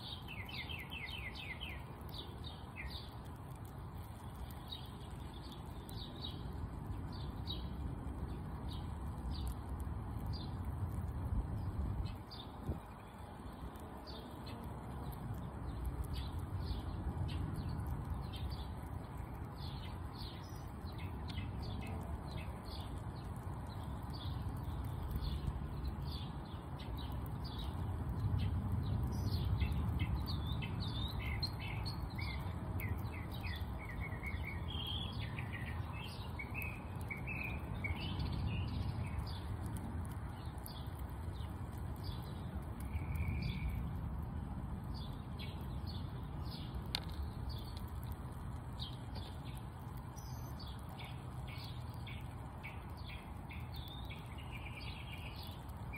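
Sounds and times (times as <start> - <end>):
low background rumble: 0.0 - 55.9
small songbirds chirping: 0.0 - 55.9.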